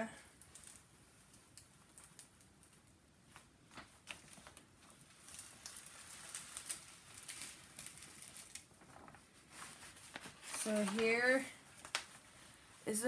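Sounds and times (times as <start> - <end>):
paper sheet rustling and crinkling: 0.5 - 13.0.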